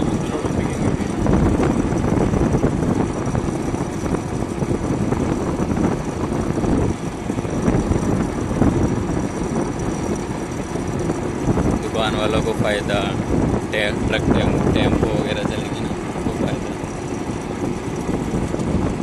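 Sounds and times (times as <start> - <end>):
motorcycle engine: 0.0 - 19.0
road noise: 0.0 - 19.0
wind buffeting microphone: 0.0 - 19.0.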